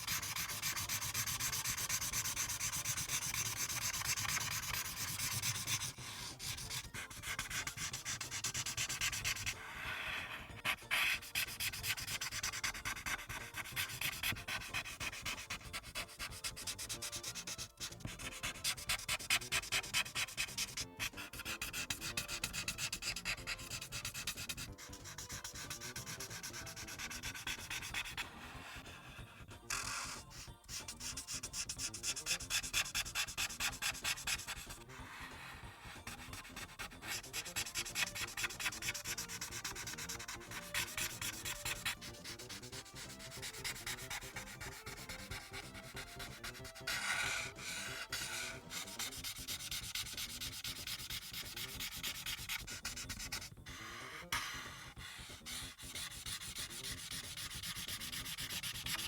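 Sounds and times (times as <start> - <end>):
marker rubbing on paper: 0.0 - 59.0.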